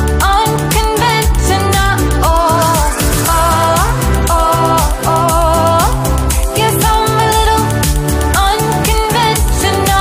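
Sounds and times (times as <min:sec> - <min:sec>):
pop music with steady beat: 0:00.0 - 0:10.0.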